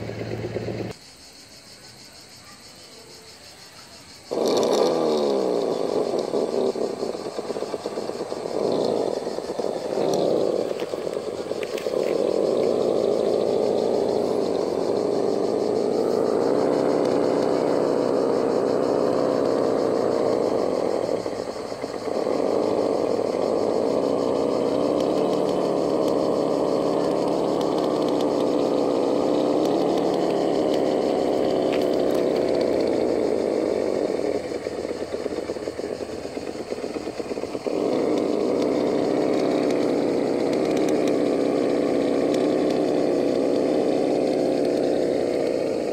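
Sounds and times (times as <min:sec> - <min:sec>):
electric motor whining: 0:04.2 - 0:45.9.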